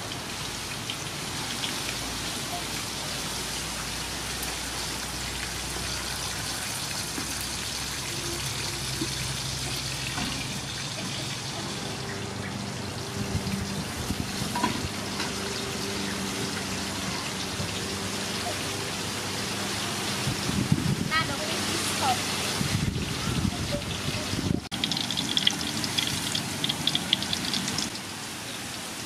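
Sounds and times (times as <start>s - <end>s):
oil sizzling in a wok: 0.0s - 29.0s.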